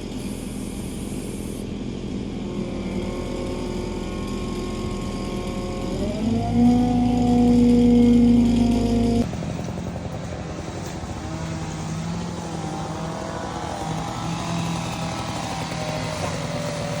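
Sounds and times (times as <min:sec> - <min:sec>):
track loader engine running: 0:00.0 - 0:17.0.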